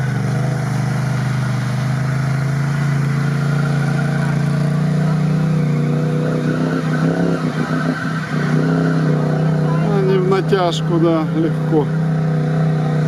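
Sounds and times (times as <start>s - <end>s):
utility vehicle engine under load: 0.0s - 13.0s
water splashing around wheels: 0.0s - 13.0s.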